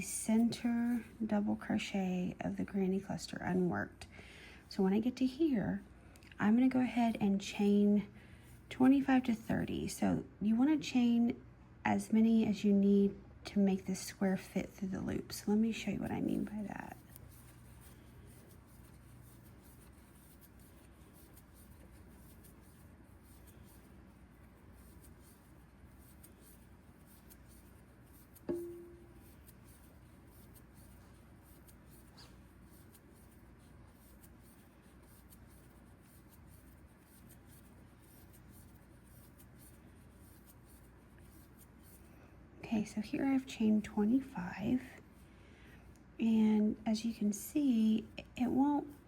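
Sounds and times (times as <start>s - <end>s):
faint yarn rustling: 0.0s - 11.3s, 13.8s - 49.0s
low room hiss: 0.0s - 49.0s.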